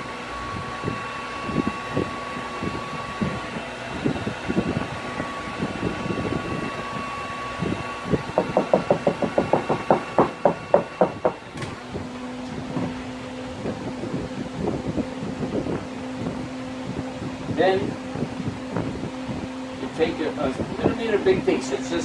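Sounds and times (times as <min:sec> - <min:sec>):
heat gun whirring: 0:00.0 - 0:22.0.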